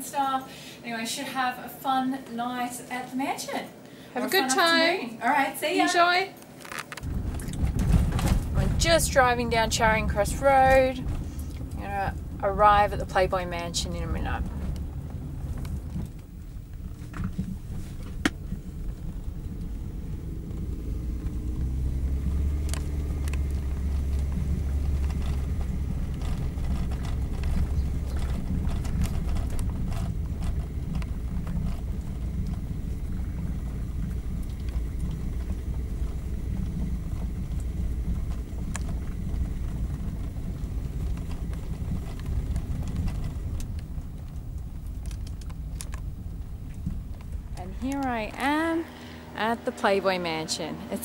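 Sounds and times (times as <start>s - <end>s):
road and engine rumble: 3.7s - 51.0s.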